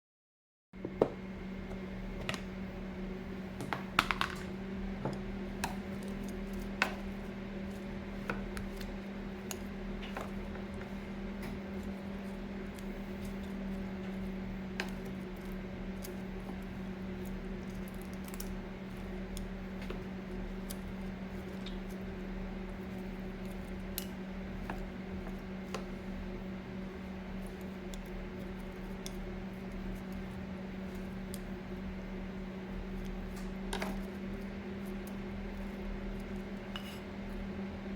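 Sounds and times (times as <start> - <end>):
low electrical hum: 0.8 - 37.9.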